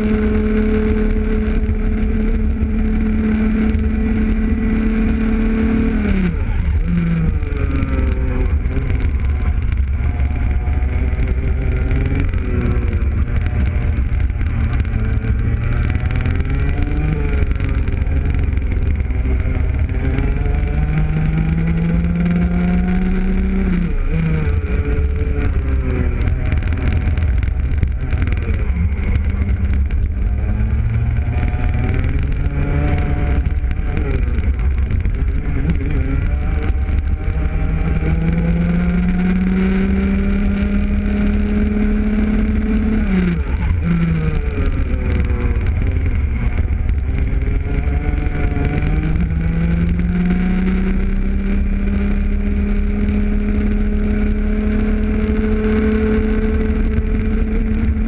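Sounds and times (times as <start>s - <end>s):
kart engine racing: 0.0s - 58.0s
low rumble: 0.0s - 58.0s.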